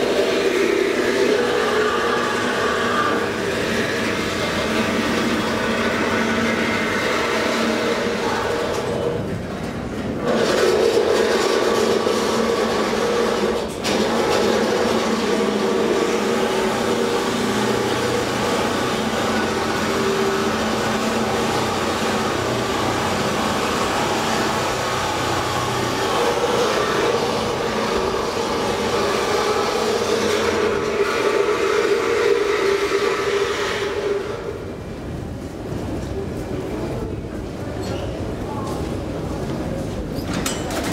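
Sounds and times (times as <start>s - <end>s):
loud mechanical hum and rumble: 0.0s - 40.9s.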